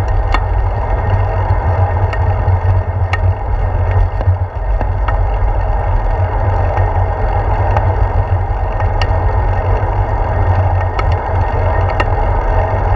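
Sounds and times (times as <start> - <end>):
light ticks: 0.0 - 12.9
tyres on pavement: 0.0 - 12.9
wind rumble: 0.0 - 12.9.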